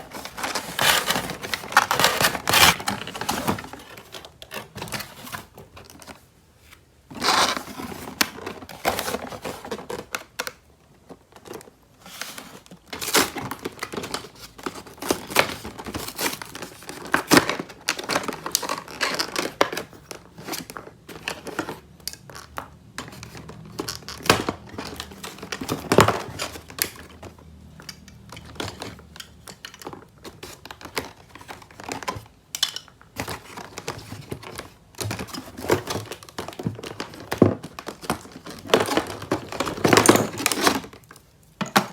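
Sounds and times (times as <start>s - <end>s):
packaging crinkling and tearing: 0.0s - 6.2s, 11.4s - 32.3s, 33.2s - 41.2s.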